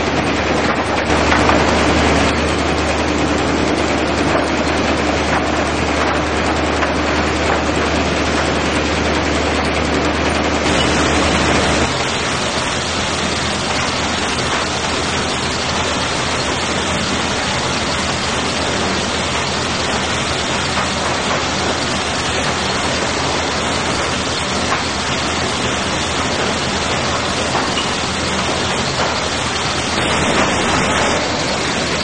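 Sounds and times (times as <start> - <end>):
sawmill conveyors running: 0.0 - 32.0.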